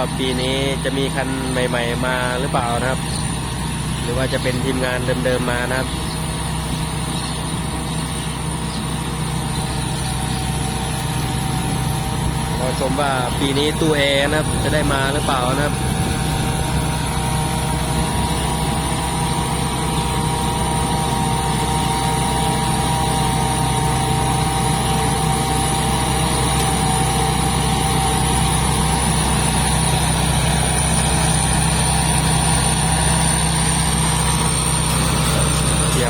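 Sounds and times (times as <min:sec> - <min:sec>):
diesel engine drone: 0:00.0 - 0:36.0
high-pitched whine: 0:00.0 - 0:36.0.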